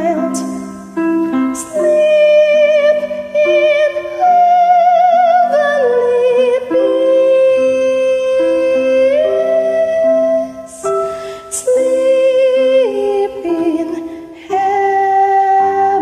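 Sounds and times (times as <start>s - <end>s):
woman singing a carol: 0.0s - 0.7s, 1.5s - 16.0s.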